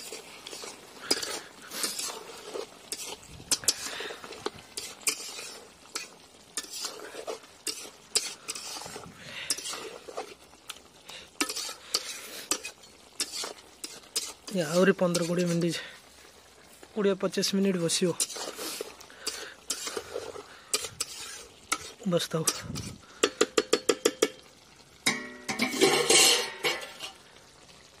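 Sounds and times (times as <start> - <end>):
metal spatula scraping pan: 0.0 - 10.5, 11.4 - 15.9, 18.2 - 24.2, 25.1 - 27.2
curry sizzling: 0.0 - 28.0.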